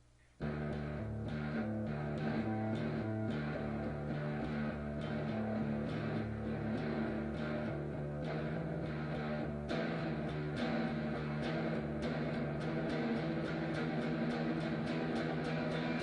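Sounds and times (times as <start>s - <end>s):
bass line: 0.4s - 16.0s
plucked guitar: 0.4s - 16.0s.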